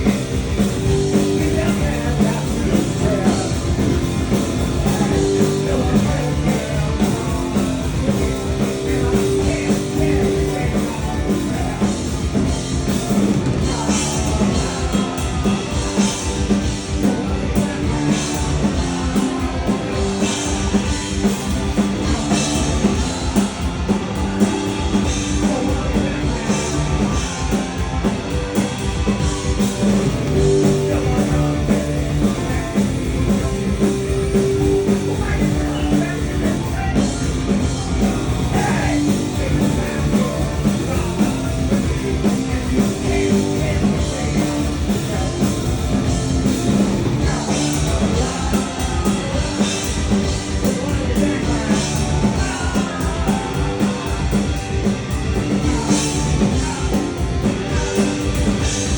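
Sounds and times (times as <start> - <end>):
punk rock band playing live: 0.0 - 58.9.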